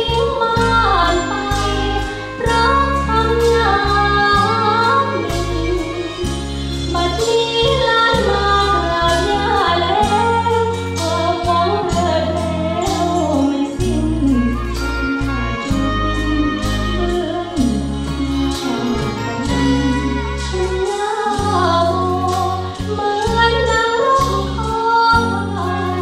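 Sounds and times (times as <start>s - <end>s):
backing track with bass and beat: 0.0s - 26.0s
young woman singing: 0.0s - 26.0s.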